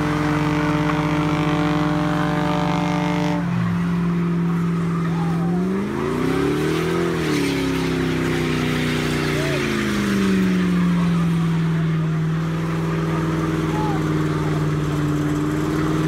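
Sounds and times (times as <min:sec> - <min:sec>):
car engine revving hard: 0:00.0 - 0:16.0
tires squealing on pavement: 0:00.0 - 0:16.0.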